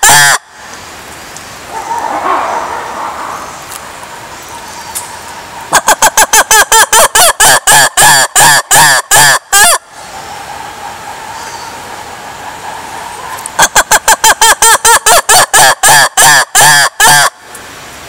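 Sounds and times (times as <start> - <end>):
lemur calling: 1.6 - 17.3.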